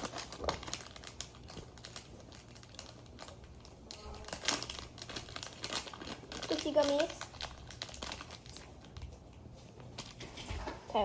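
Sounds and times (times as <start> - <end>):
candy wrapper crinkling: 0.0 - 10.3.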